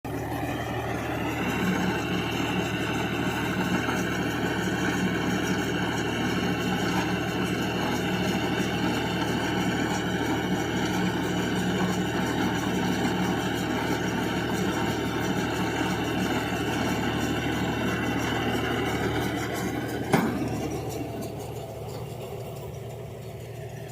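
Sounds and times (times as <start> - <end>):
tractor engine droning: 0.0 - 23.9.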